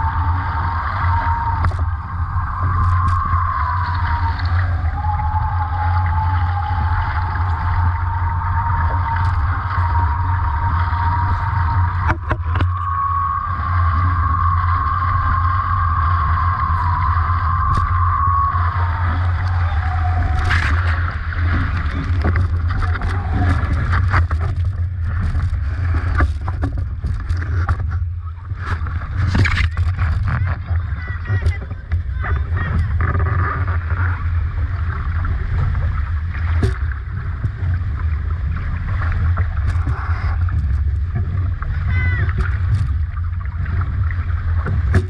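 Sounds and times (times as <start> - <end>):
high whine: 0.0 - 45.0
rushing water: 0.0 - 45.0
water splashes: 0.0 - 45.0
wind: 0.0 - 45.0.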